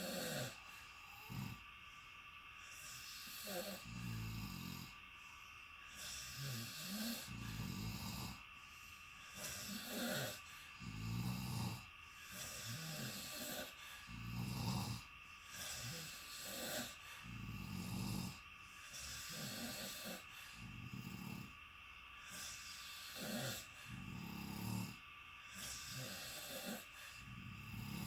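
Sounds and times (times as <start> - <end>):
people snoring: 0.0 - 1.7, 2.6 - 5.0, 5.9 - 8.5, 9.2 - 21.6, 22.2 - 28.0.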